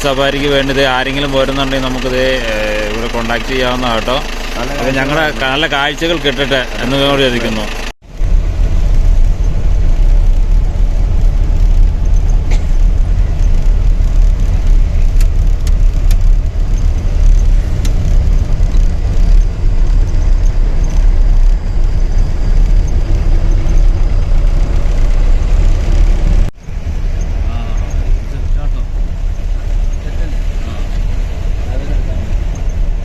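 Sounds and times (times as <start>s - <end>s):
vehicle engine and road rumble: 0.0s - 33.0s.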